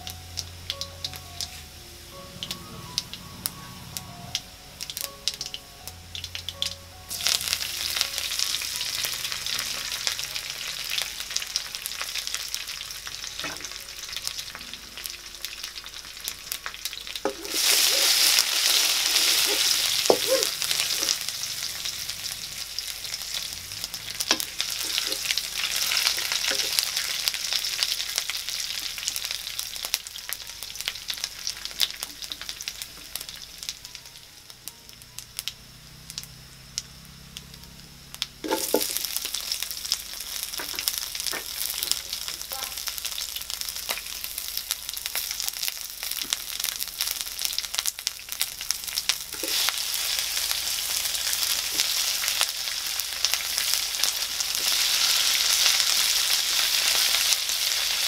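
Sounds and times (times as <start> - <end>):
oil sizzling in a wok: 0.0 - 58.0.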